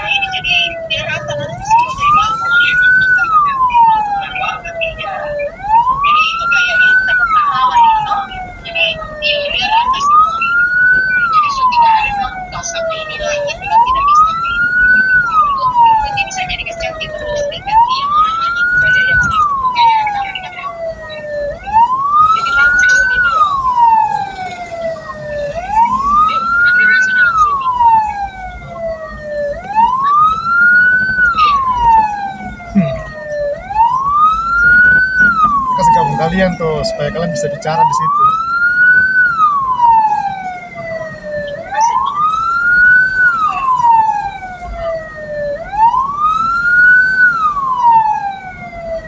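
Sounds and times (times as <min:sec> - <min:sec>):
low vehicle rumble: 0:00.0 - 0:49.0
siren wailing: 0:00.0 - 0:49.0.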